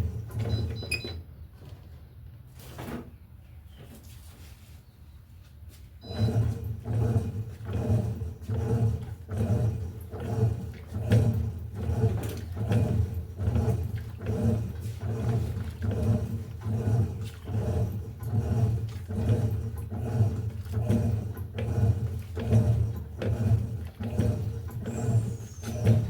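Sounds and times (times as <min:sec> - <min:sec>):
washing machine churning: 0:00.0 - 0:02.0, 0:06.0 - 0:26.0.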